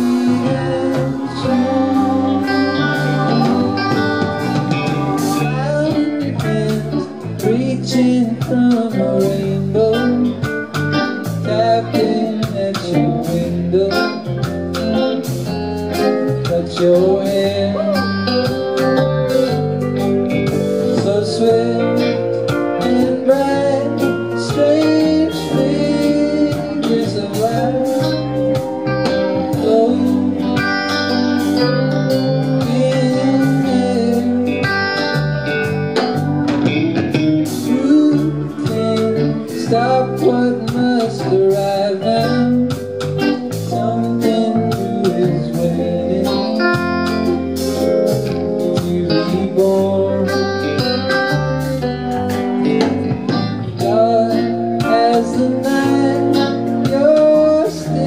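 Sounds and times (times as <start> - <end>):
lead guitar bending notes: 0.0 - 58.0
live rock band playing: 0.0 - 58.0.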